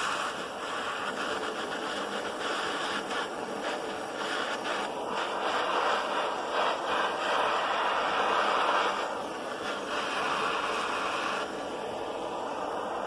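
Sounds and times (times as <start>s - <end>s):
blowtorch hissing: 0.0s - 13.0s
heat gun hissing: 0.0s - 13.0s.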